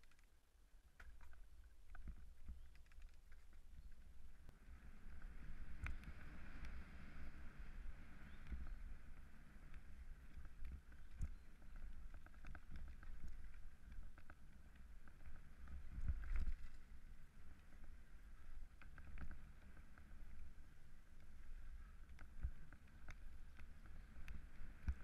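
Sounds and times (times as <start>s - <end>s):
bike rattles and clicks: 1.0s - 4.5s, 5.1s - 25.0s.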